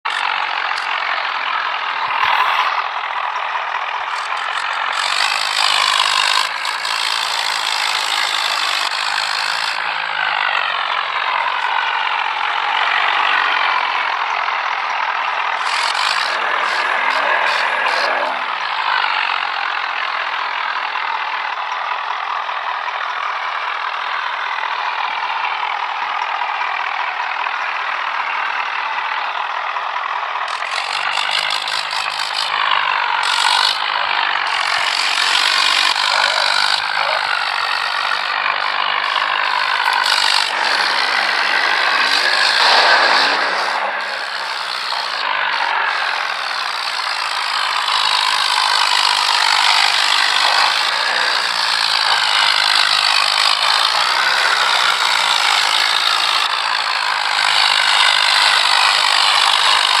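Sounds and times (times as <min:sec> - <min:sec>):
tractor engine under heavy load: 0:00.0 - 1:00.0.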